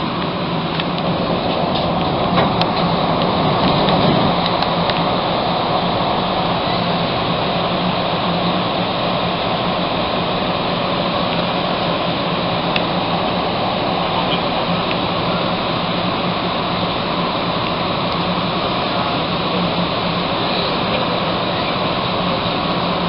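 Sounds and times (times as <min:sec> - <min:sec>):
low steady drone: 0:00.0 - 0:23.0
ventilation hiss and hum: 0:00.0 - 0:23.0.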